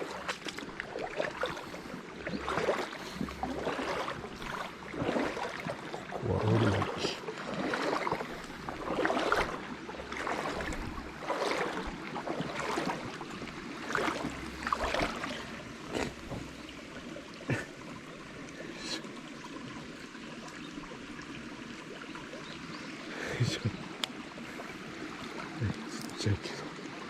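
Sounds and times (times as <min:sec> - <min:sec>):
small river flowing: 0:00.0 - 0:27.0.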